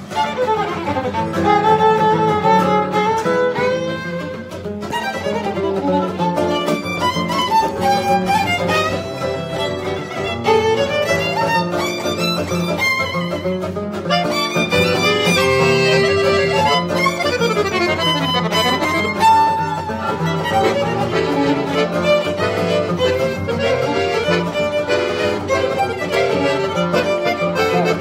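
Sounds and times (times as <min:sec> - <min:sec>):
accordion accompaniment: 0:00.0 - 0:28.0
violin melody: 0:00.0 - 0:28.0.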